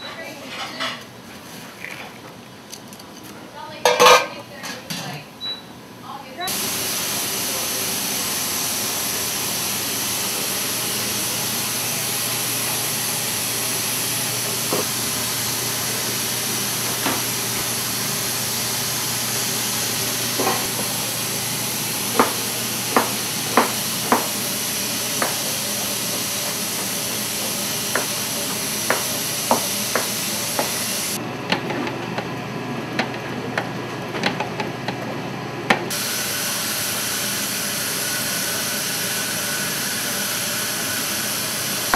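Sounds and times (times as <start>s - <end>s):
kitchen background hiss: 3.4s - 31.2s, 35.9s - 41.9s.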